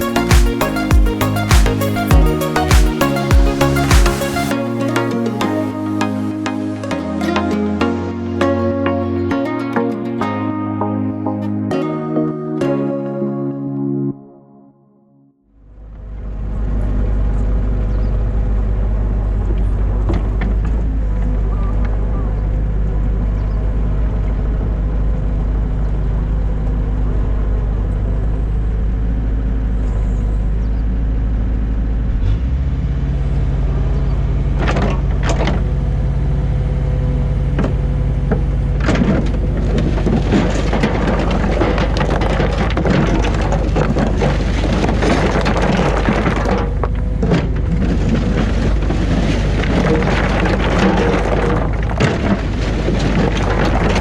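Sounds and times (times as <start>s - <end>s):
excavator diesel engine: 0.0s - 12.0s, 16.0s - 54.0s.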